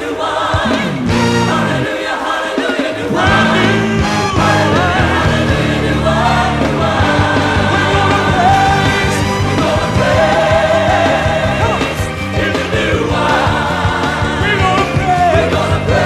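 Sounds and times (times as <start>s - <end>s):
gospel choir singing: 0.0s - 16.0s
band with bass keyboards drums: 0.6s - 1.8s, 3.1s - 16.0s.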